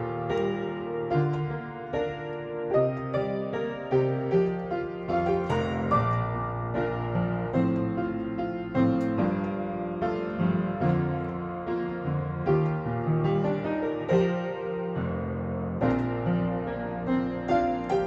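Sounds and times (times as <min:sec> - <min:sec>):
slow solo piano piece: 0:00.0 - 0:18.0.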